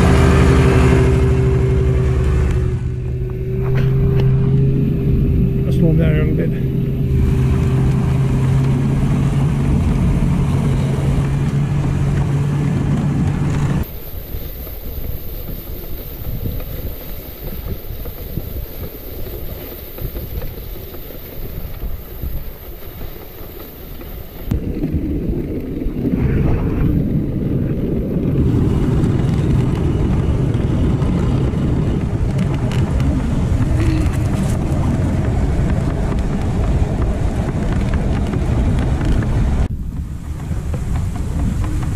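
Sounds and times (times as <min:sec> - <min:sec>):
sled runners rumbling on snow: 0:00.0 - 0:41.9
steady low hum: 0:00.0 - 0:41.9
wind on microphone: 0:00.0 - 0:41.9.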